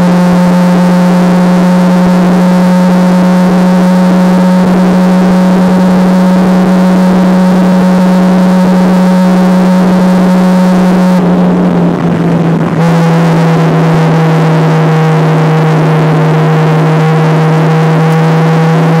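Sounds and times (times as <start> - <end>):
race car engine from cabin: 0.0 - 19.0.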